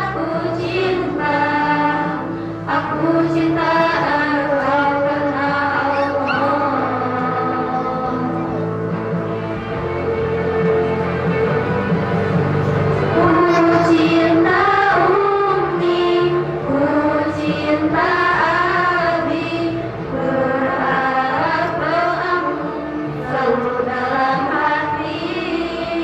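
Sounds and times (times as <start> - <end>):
choir singing gliding notes: 0.0 - 26.0.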